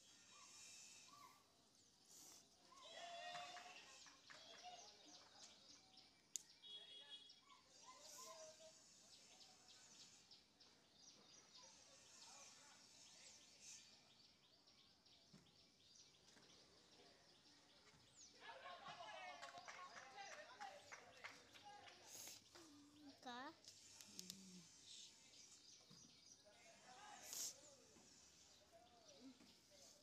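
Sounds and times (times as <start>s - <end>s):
faint distant voices: 0.0s - 30.0s.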